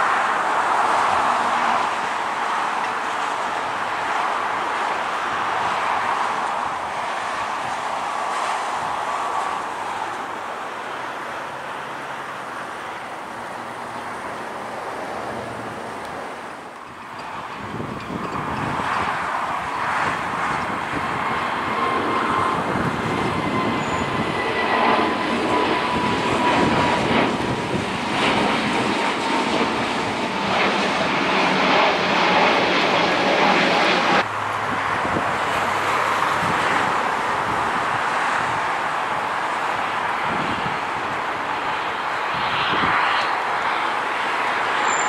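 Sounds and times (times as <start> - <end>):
jet engines at takeoff power: 0.0 - 45.0.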